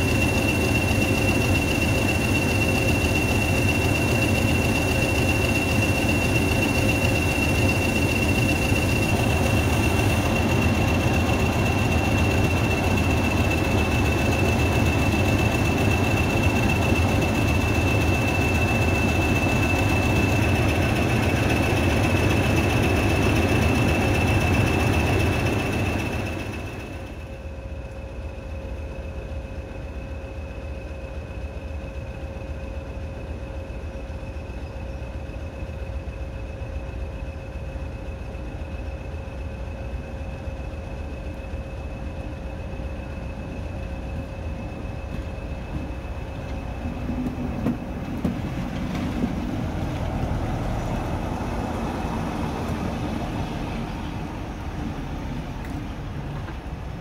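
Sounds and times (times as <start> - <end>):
diesel locomotive engine and wheel rumble: 0.0 - 57.0
high-pitched whine: 0.0 - 57.0.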